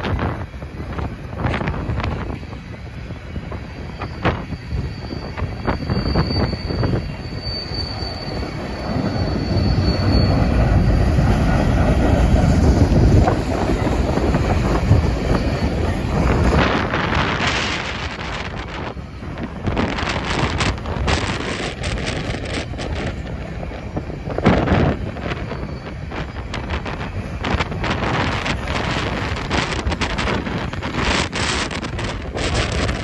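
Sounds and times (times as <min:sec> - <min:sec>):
high wheel squeal: 0:00.0 - 0:33.0
train clanks: 0:00.0 - 0:33.0
train wheels rumbling on rail: 0:00.0 - 0:33.0.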